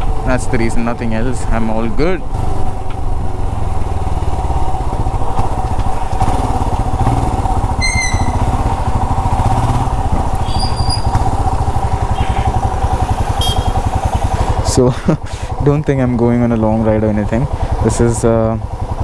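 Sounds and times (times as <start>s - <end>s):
motorcycle engine pulsing at low revs: 0.0s - 19.0s.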